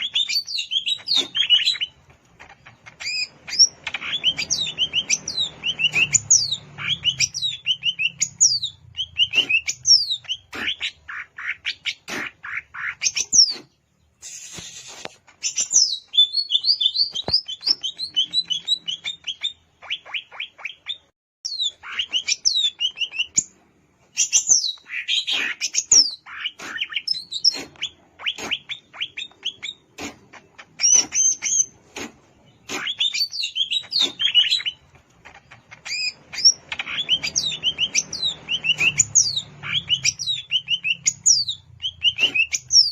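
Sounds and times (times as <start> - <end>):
bird whistling and chirping: 0.0 - 2.0, 2.9 - 10.6, 12.8 - 23.5, 24.1 - 29.8, 32.6 - 34.8, 35.4 - 42.9.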